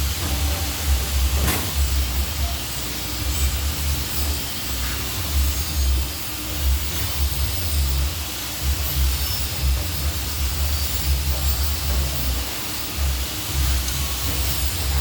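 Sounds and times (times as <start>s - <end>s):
pipe-bending machine hiss and rumble: 0.0s - 15.0s.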